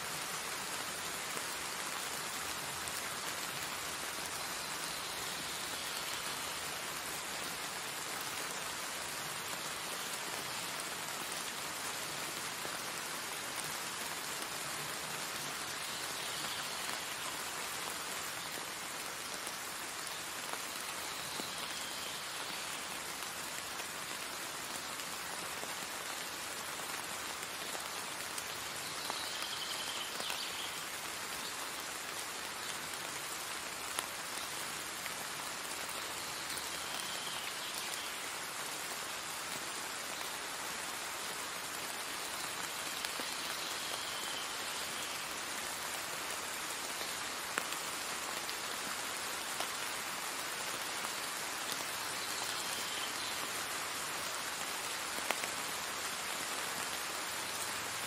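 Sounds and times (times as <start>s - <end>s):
rain on paved path: 0.0s - 58.0s.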